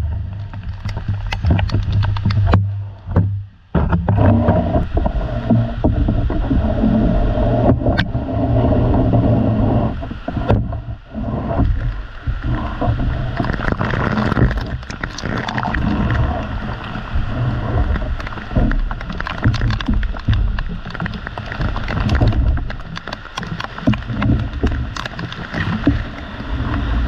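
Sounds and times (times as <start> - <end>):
deep rumble: 0.0 - 27.0
raindrops tapping near microphone: 0.0 - 27.0
heavy rain hiss: 4.7 - 27.0.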